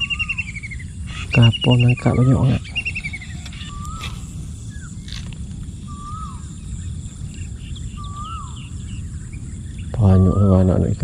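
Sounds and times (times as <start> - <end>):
bird whistled call: 0.0 - 10.8
steady low rumble: 0.0 - 11.0.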